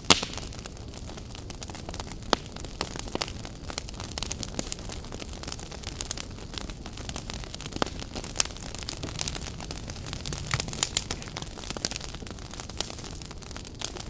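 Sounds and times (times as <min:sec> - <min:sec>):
fire crackles and pops: 0:00.0 - 0:14.0
fire flame rushing: 0:00.4 - 0:14.0.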